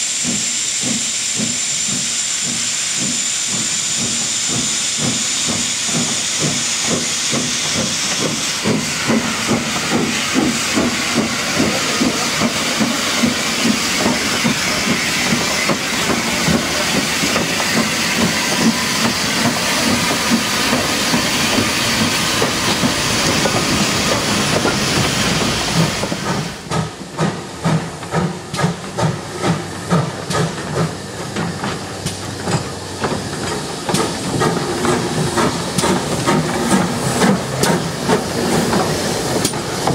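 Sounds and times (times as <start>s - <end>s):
loud steam hissing: 0.0s - 39.9s
steam locomotive chuffing: 0.0s - 39.9s
steam locomotive exhaust beats: 0.0s - 39.9s.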